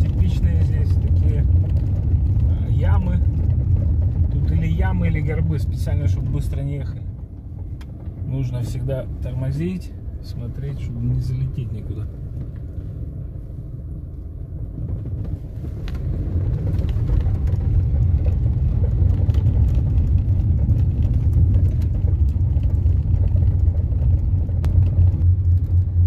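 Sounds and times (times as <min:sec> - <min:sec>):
tyres rumbling on cobblestones: 0:00.0 - 0:26.0.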